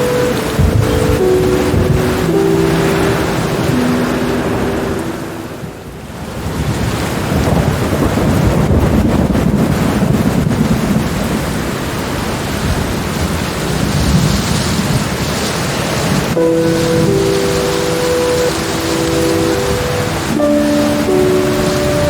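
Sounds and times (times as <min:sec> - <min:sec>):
heavy rain: 0:00.0 - 0:22.0
thunder rumbling: 0:00.0 - 0:22.0.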